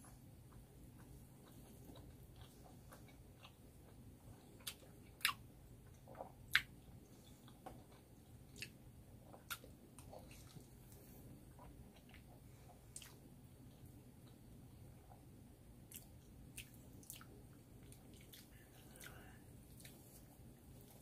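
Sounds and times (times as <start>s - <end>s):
wet chewing: 0.5s - 14.4s, 15.9s - 21.0s.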